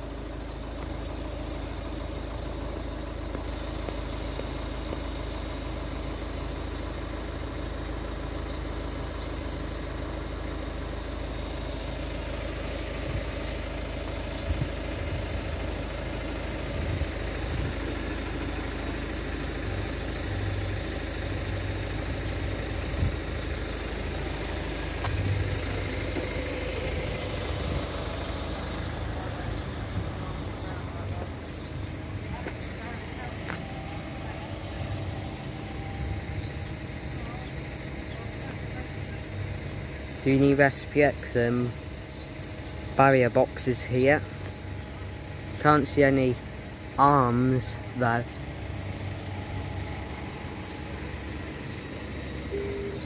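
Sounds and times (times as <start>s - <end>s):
car engines idling: 0.0s - 53.0s.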